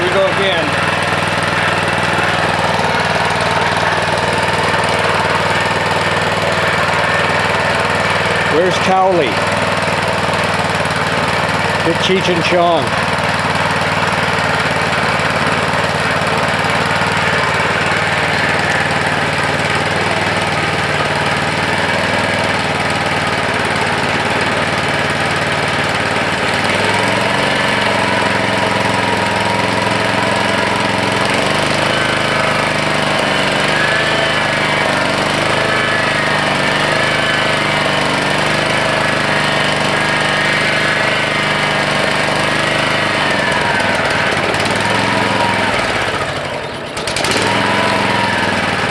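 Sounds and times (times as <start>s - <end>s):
lawnmower engine running: 0.0s - 48.9s.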